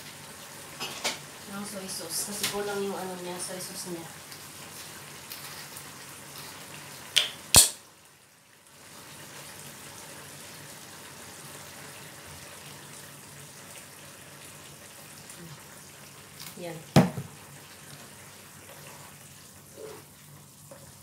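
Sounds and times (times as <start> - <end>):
food simmering with bubbling hiss: 0.0 - 21.0.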